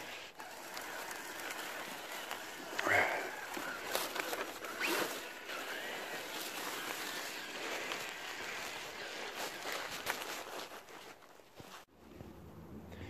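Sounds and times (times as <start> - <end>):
dry leaves crunching: 0.0 - 11.9
footsteps on leaves: 0.0 - 11.9
twigs snapping: 0.4 - 11.8.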